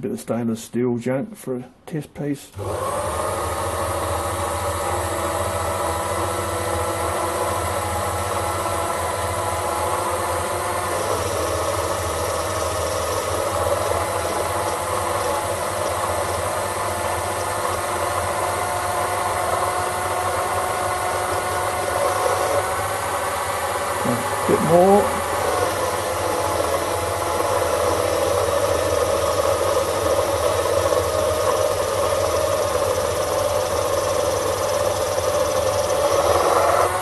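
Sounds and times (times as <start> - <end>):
lathe running with mechanical hum: 2.6 - 37.0
cutting tool turning steel: 4.4 - 37.0.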